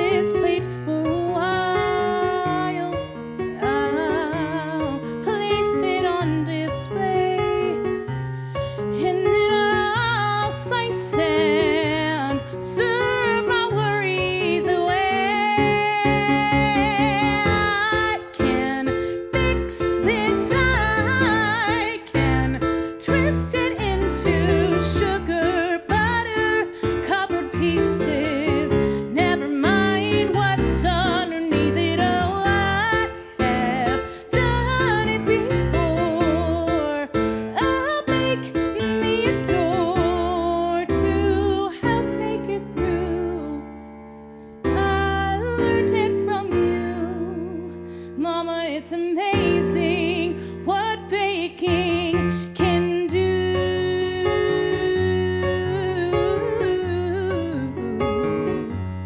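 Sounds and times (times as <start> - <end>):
woman singing with vibrato: 0.0 - 3.0, 3.6 - 8.0, 9.0 - 43.6, 44.7 - 58.8
recorded backing track: 0.0 - 59.0.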